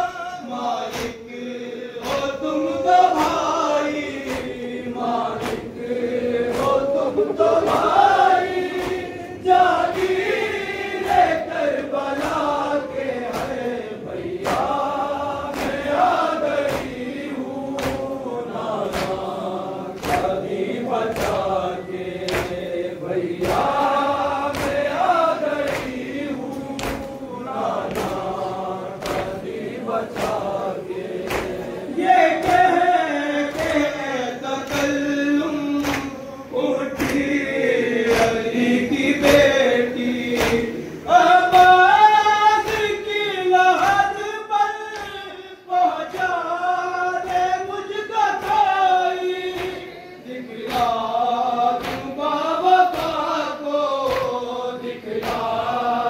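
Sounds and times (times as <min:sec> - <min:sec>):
voices chanting a lament: 0:00.0 - 0:56.0.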